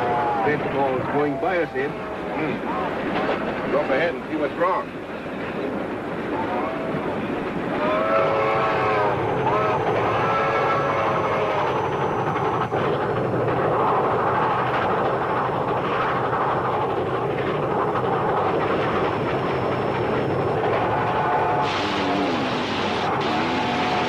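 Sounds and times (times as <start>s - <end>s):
train rumbling and rattling: 0.0s - 24.0s.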